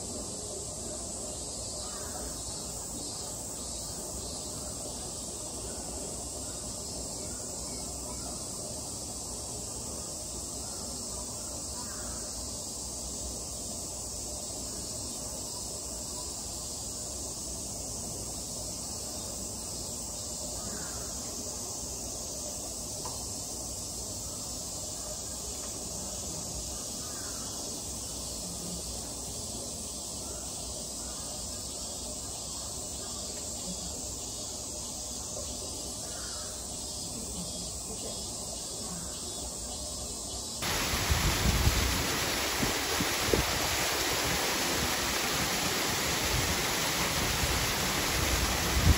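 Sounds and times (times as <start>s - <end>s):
outdoor hiss: 0.0s - 48.9s.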